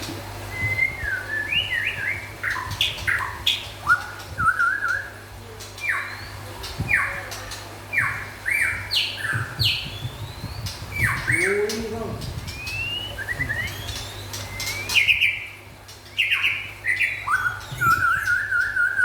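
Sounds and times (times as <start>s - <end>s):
songbird whistling and trilling: 0.5s - 5.2s, 5.8s - 7.3s, 7.9s - 19.0s.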